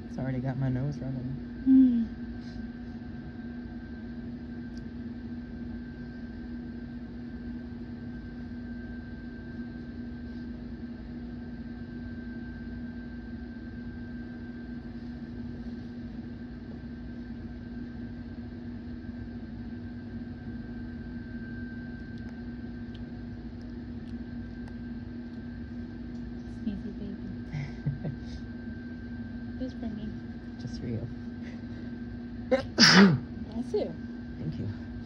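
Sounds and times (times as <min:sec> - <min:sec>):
faint high whine: 0:00.0 - 0:35.0
low steady hum: 0:00.0 - 0:35.0.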